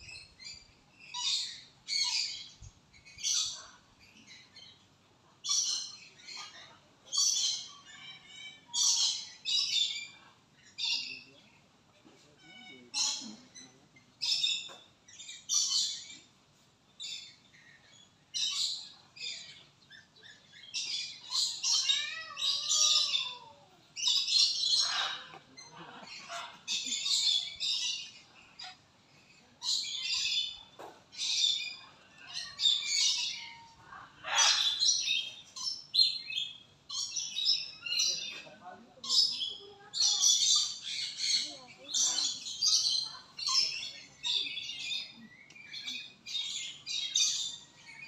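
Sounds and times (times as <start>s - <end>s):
birds chirping and calling: 0.0s - 48.0s.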